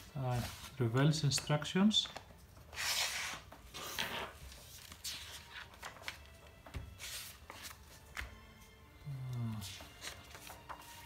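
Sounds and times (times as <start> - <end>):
paper rustling: 0.0 - 8.4, 9.3 - 11.0.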